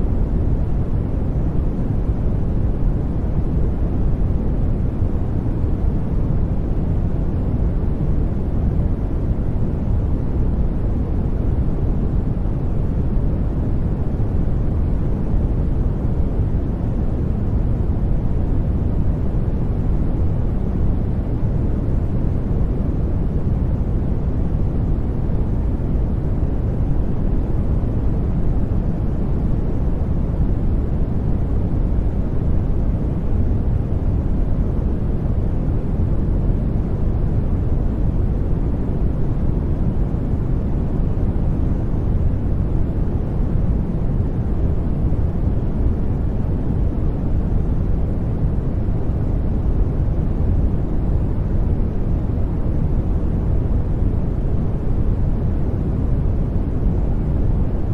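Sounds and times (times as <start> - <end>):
deep white noise rumble: 0.0 - 57.9.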